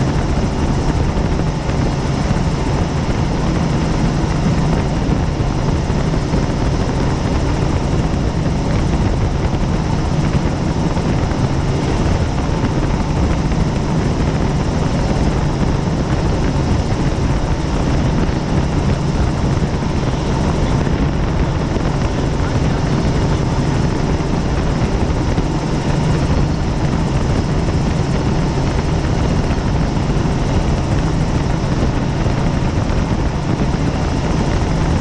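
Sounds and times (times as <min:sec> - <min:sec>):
helicopter engine and rotor drone: 0:00.0 - 0:35.0.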